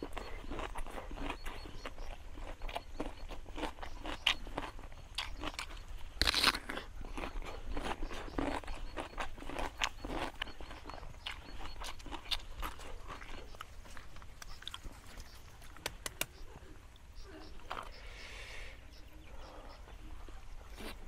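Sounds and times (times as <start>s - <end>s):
person chewing and crunching food: 0.0s - 18.1s, 19.4s - 21.0s
mouth clicks: 0.0s - 20.0s.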